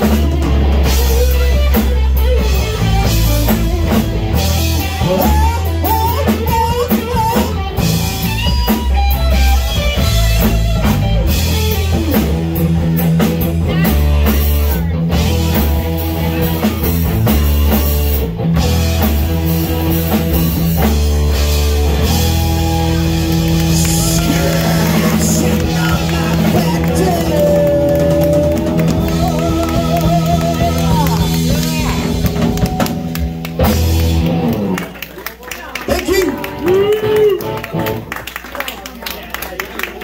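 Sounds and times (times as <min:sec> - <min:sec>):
drum kit: 0:00.0 - 0:35.0
electric guitar: 0:00.0 - 0:38.4
bass guitar: 0:00.0 - 0:38.6.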